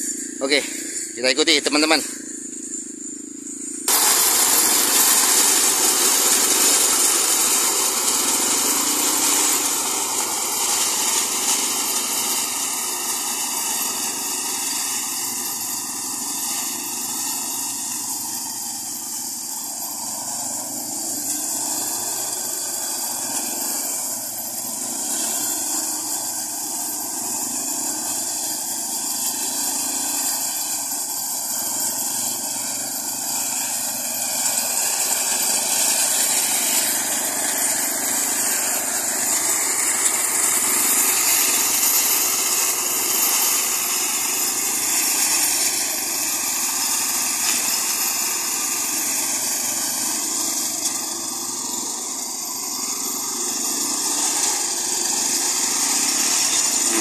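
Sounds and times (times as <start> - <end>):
brush-cutting machine engines running: 0.0 - 57.0.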